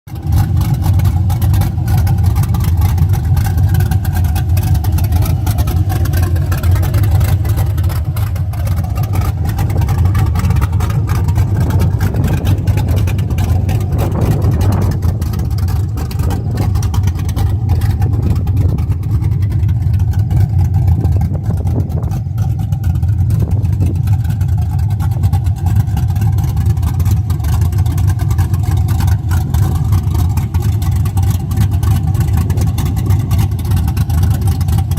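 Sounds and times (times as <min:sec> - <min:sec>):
engine idling with choppy lope: 0:00.0 - 0:34.9.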